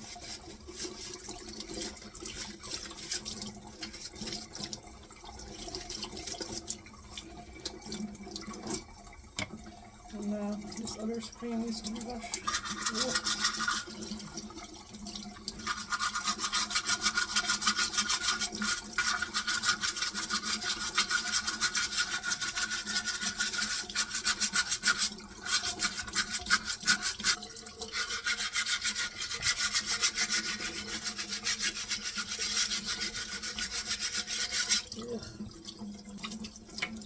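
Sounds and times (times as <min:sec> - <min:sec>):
brush scrubbing mesh filter: 0:00.0 - 0:04.8, 0:05.4 - 0:07.2, 0:10.2 - 0:14.6, 0:15.3 - 0:35.4.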